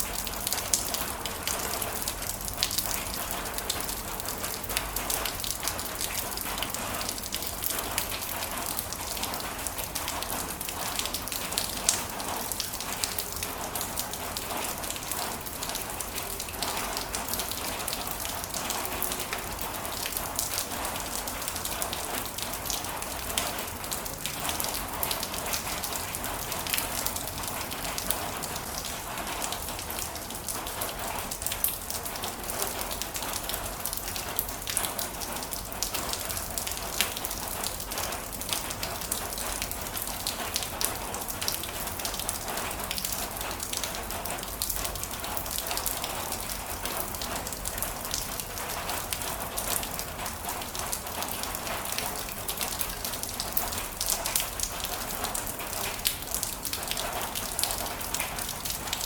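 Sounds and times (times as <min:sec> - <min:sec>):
raindrops ticking on hard surfaces: 0:00.0 - 0:59.0.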